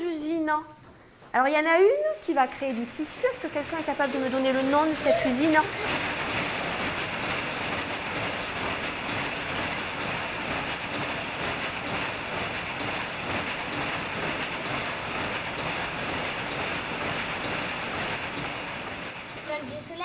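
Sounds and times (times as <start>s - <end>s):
weaving looms running: 1.4s - 20.0s.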